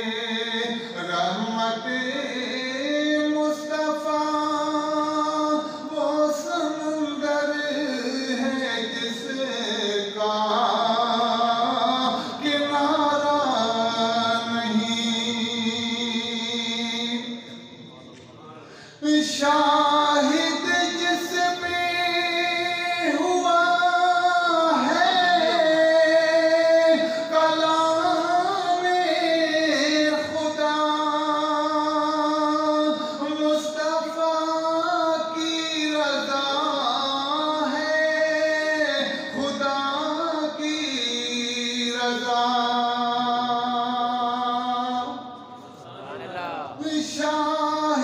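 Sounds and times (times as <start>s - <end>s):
man singing unaccompanied: 0.0s - 17.5s, 19.0s - 45.3s, 45.9s - 48.0s.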